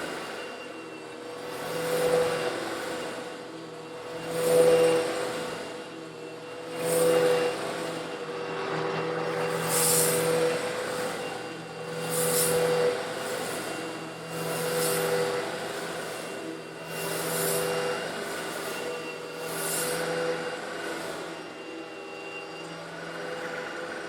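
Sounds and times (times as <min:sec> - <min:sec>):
vacuum cleaner motor whining: 0:00.0 - 0:24.0.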